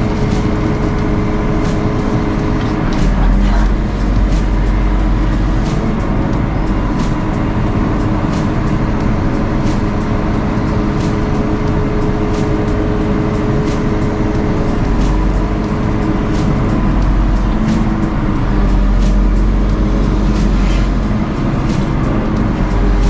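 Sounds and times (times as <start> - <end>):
diesel engine running: 0.0 - 23.0
steady whine: 0.0 - 23.0.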